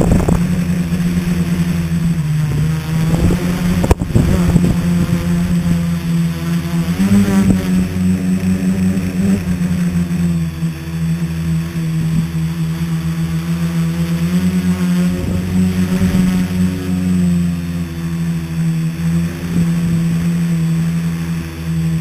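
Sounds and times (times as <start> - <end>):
drone motors and propellers humming: 0.0 - 22.0.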